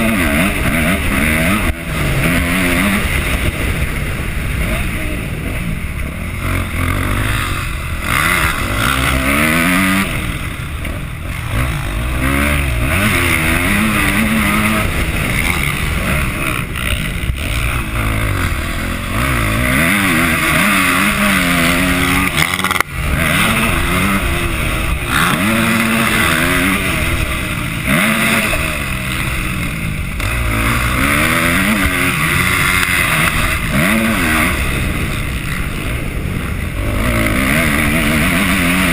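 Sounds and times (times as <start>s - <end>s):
motocross bike engine revving: 0.0s - 38.9s
steady rushing noise: 0.0s - 38.9s.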